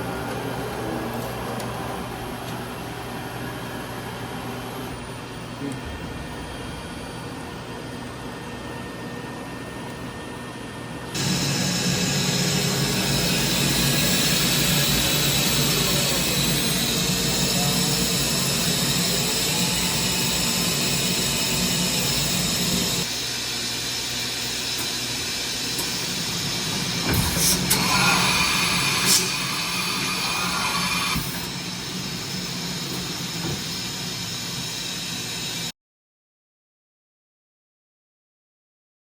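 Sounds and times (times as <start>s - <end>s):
machining center humming: 0.0s - 35.7s.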